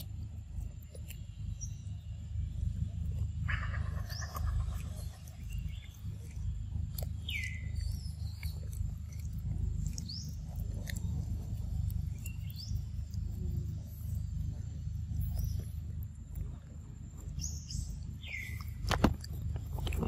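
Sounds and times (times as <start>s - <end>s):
birds chirping: 0.0s - 20.0s
low rumble: 0.0s - 20.0s
monkey chewing fruit: 0.0s - 20.0s.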